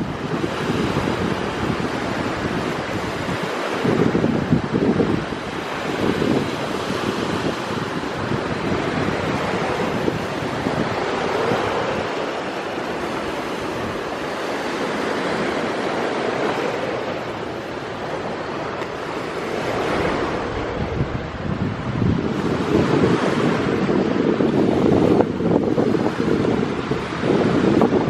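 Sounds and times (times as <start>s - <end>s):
sea waves: 0.0s - 28.0s
wind: 0.0s - 28.0s.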